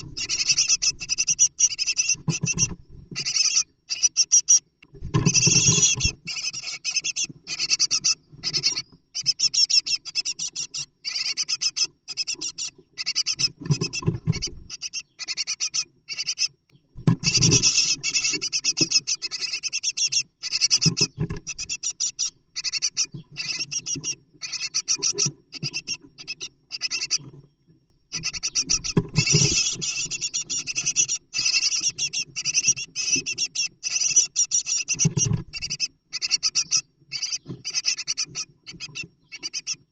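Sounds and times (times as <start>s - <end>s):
birds scratching and rustling in nest box: 0.0s - 27.5s, 28.1s - 39.8s.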